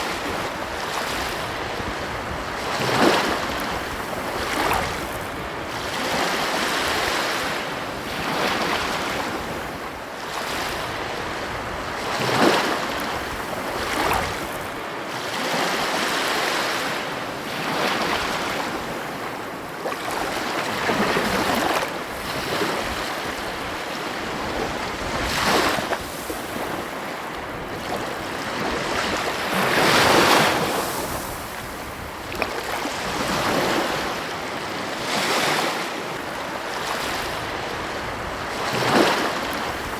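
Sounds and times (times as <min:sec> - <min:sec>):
wind on microphone: 0:00.0 - 0:14.9, 0:17.4 - 0:39.9
ocean waves breaking on beach: 0:00.0 - 0:39.9.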